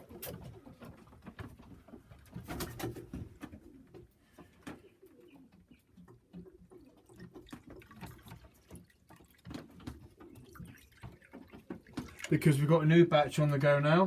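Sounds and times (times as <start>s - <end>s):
pigeons cooing: 0.0s - 1.5s, 2.2s - 12.2s.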